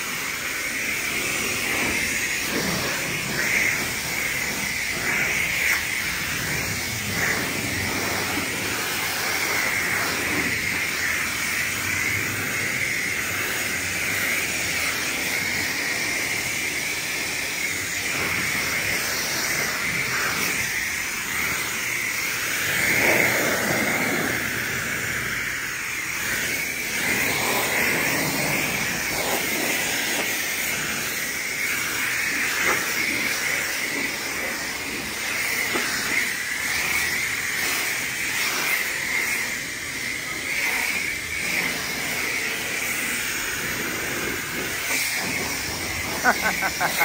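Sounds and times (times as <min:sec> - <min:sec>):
high-pressure water spray hissing: 0:00.0 - 0:47.0.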